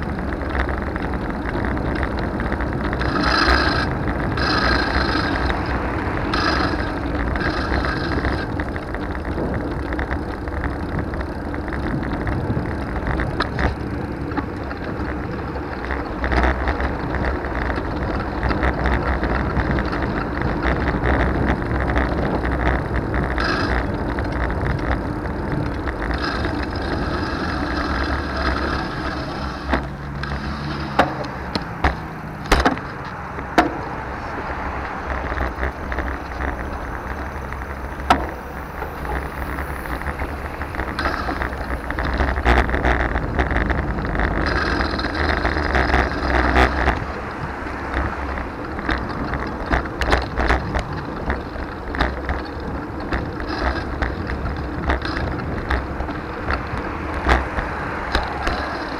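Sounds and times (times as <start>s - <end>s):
bicycle clicks and knocks: 0.0s - 58.9s
bicycle riding rumble: 0.0s - 58.9s.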